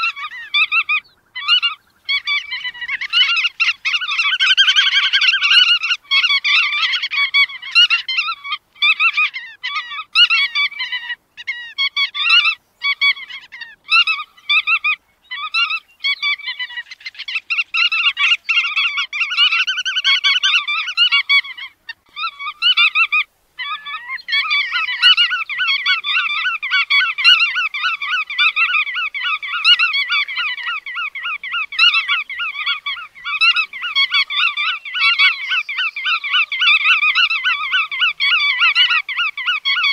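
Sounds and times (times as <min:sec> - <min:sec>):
flock of shorebirds calling: 0:00.0 - 0:39.9.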